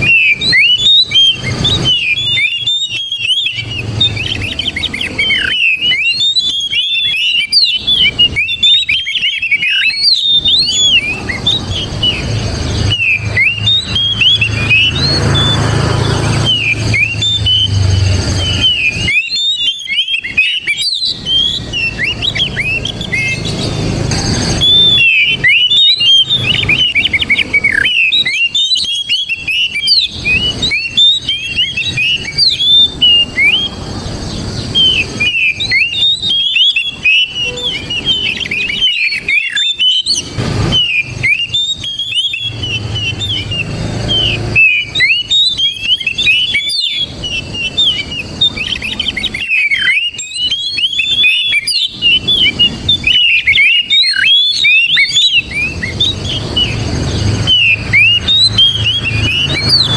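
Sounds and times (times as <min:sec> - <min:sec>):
bird singing whistled notes: 0:00.0 - 0:59.9.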